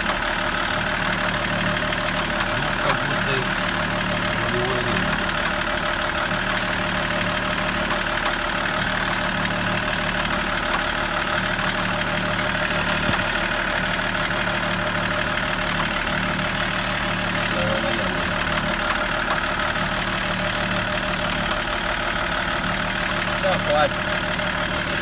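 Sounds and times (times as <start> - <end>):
car engine idling: 0.0 - 25.0
steering clicks and crackles: 0.0 - 25.0.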